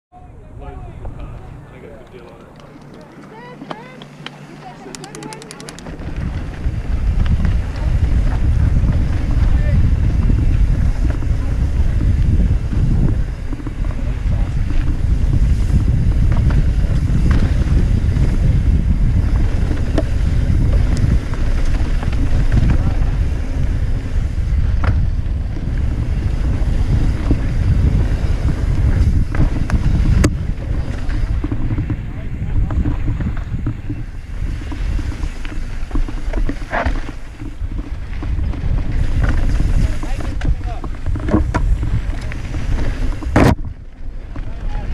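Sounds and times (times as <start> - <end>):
wind buffeting microphone: 0.1 - 44.9
bike rattling over rough ground: 0.6 - 44.9.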